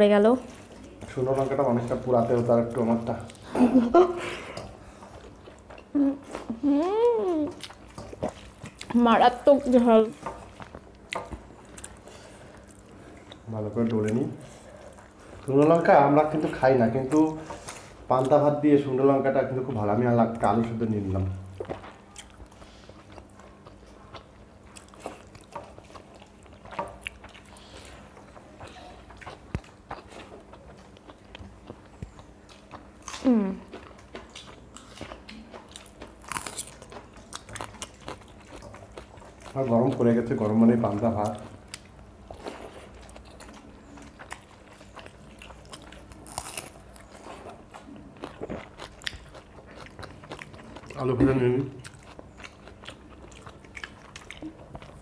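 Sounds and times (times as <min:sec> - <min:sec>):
people chewing: 0:00.0 - 0:55.0.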